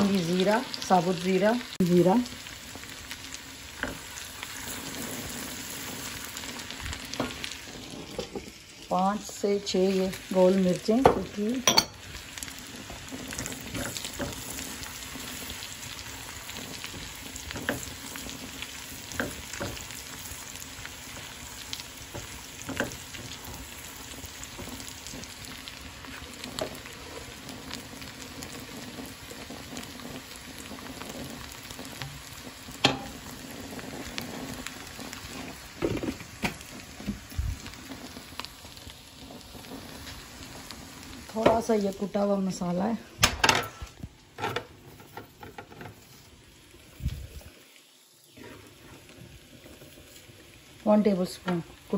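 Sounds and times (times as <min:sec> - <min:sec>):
ghee sizzling in a frying pan: 0:00.0 - 0:51.9.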